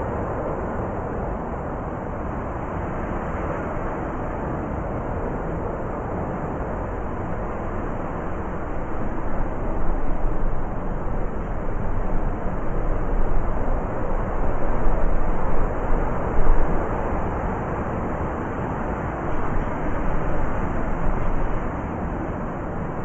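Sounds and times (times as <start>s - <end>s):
blizzard wind howling: 0.0s - 23.0s.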